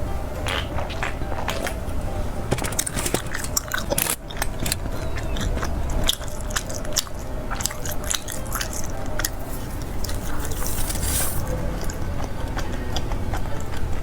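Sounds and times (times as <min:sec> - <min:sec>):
biting and chewing food: 0:02.5 - 0:14.0.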